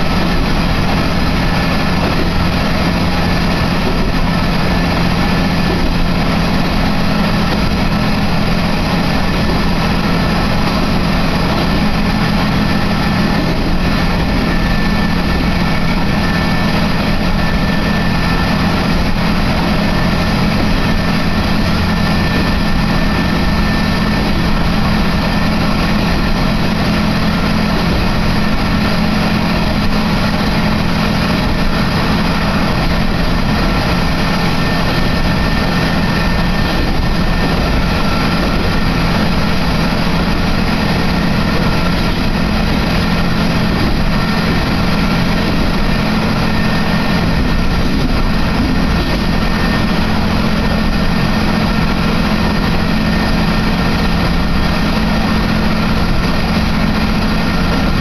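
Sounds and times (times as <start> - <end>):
engine hum: 0.0 - 58.0
wheel and rail noise: 0.0 - 58.0.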